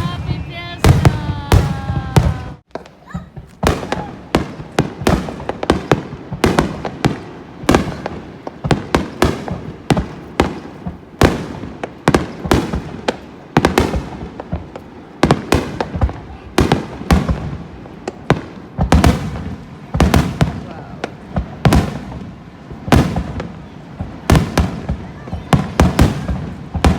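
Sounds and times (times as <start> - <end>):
firework bursts and cracks: 0.0 - 26.9.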